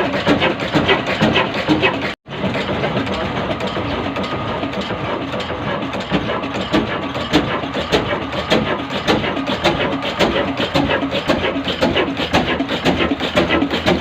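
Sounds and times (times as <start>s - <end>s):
sharp engine knocks: 0.0s - 14.0s
diesel engine running: 2.3s - 14.0s.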